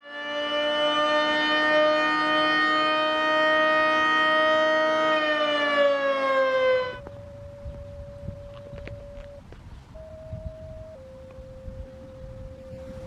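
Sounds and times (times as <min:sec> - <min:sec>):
warning siren alert tone: 0:00.0 - 0:13.0.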